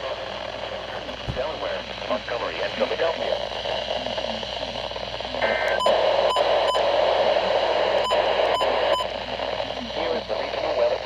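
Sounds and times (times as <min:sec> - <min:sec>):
radio hiss: 0:00.0 - 0:11.0.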